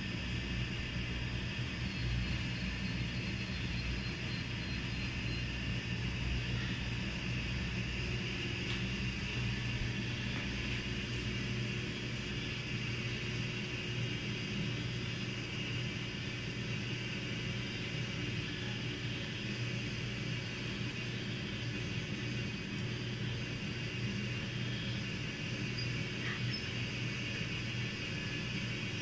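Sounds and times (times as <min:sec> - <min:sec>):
motor humming with hiss: 0:00.0 - 0:29.0.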